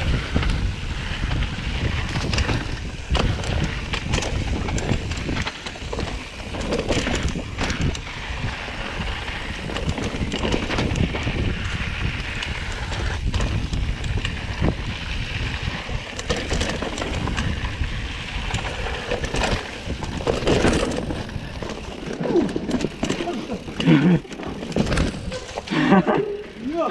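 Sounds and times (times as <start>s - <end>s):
wind on microphone: 0.0s - 23.8s
bike rattling over bumps: 0.0s - 26.9s
tyres on loose dirt: 0.0s - 26.9s.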